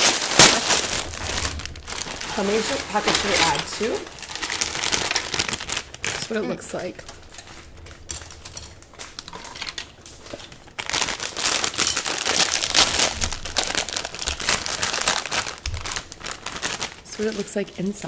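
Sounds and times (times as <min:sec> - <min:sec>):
plastic packet crinkling: 0:00.0 - 0:18.0.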